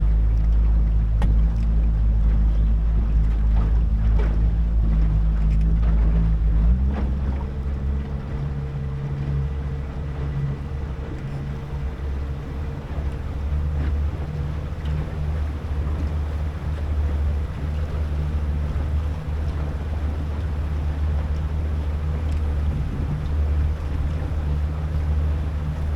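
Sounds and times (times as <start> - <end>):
motorboat engine running: 0.0 - 25.9.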